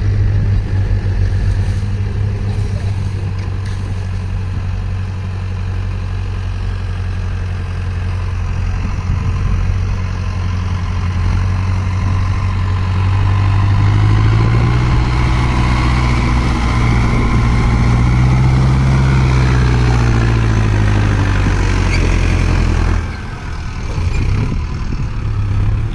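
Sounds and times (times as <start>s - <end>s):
tractor diesel engine under load: 0.0s - 25.9s.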